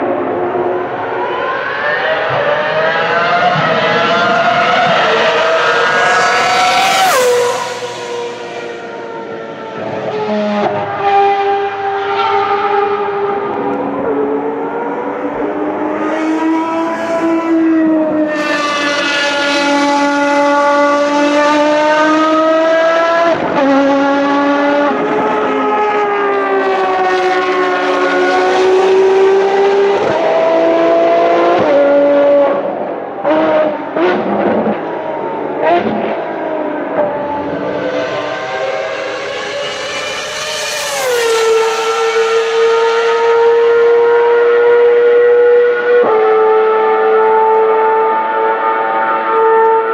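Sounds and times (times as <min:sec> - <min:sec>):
racing car engine at high revs: 0:00.0 - 0:49.9.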